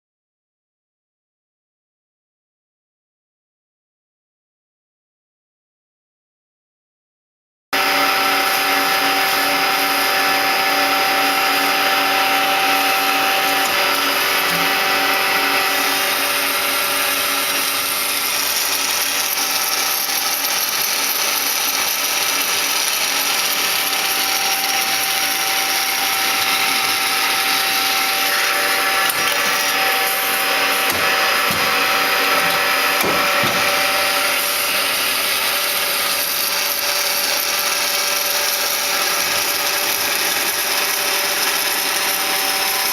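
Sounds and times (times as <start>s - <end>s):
bandsaw whine: 7.8s - 42.9s.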